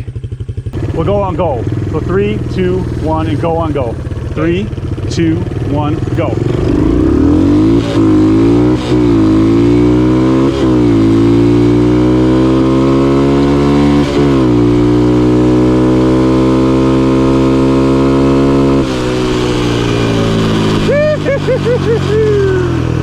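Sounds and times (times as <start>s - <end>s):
dirt bike engine accelerating: 0.0s - 23.0s.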